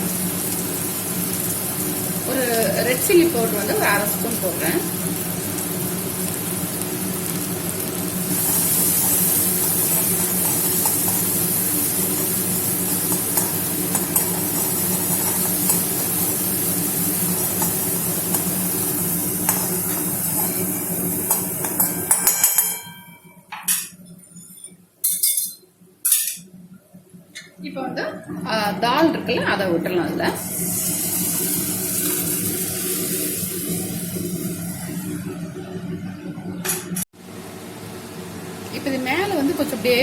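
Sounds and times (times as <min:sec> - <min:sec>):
masala sizzling in a pan: 0:00.0 - 0:23.3, 0:28.3 - 0:36.3, 0:37.2 - 0:40.0.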